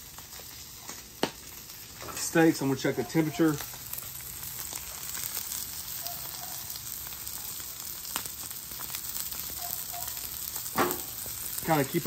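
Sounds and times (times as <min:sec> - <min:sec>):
steaks sizzling on a griddle: 0:00.0 - 0:12.0.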